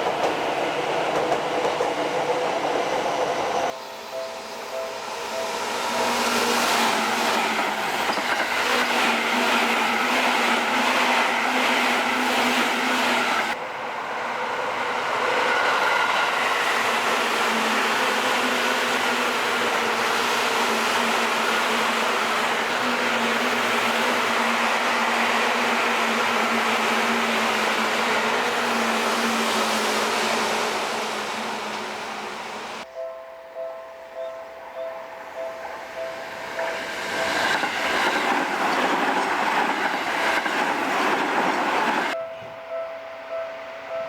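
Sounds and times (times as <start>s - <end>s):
electric train running: 0.0s - 32.9s, 35.3s - 42.2s.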